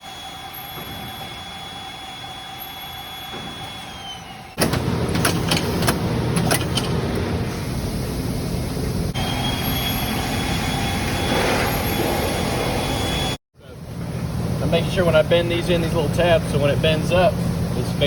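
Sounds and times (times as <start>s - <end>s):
loud machine noise: 0.0s - 18.0s
machinery hum with high whine: 0.0s - 18.0s.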